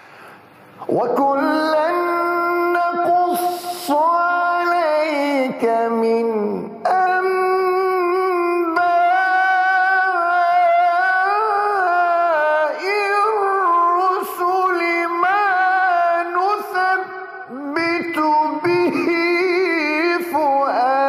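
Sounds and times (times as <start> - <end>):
man reciting melodically: 0.8 - 21.0.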